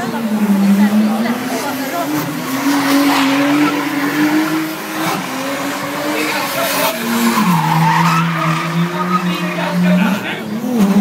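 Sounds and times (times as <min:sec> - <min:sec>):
car engine revving high: 0:00.0 - 0:11.0
tyres squealing on pavement: 0:01.4 - 0:10.9.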